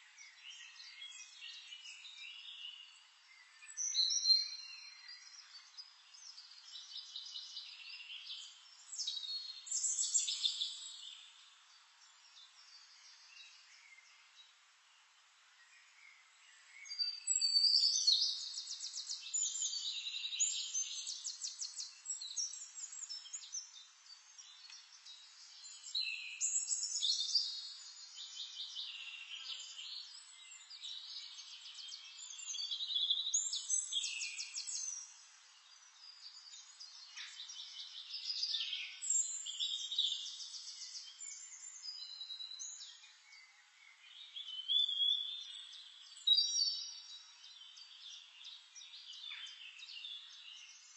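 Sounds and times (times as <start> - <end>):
songbirds singing: 0.0 - 50.9.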